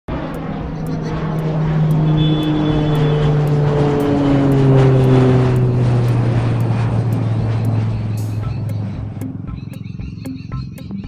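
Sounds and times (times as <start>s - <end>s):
vehicle engine droning by: 0.1s - 10.7s.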